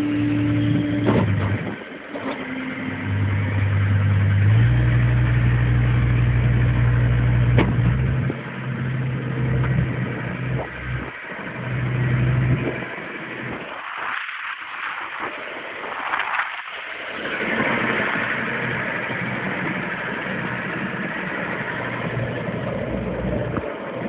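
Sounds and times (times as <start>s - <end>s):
loader engine running: 0.0s - 13.8s, 17.0s - 24.0s
steady rushing noise: 4.4s - 24.0s.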